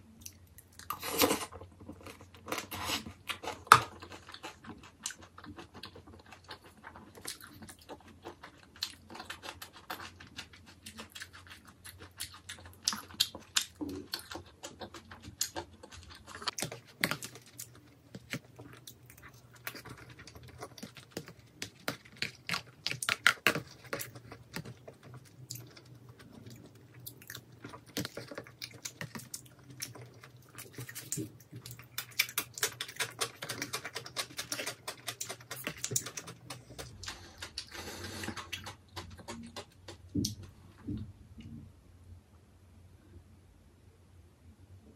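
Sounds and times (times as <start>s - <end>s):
chewing noodles: 0.2s - 40.6s.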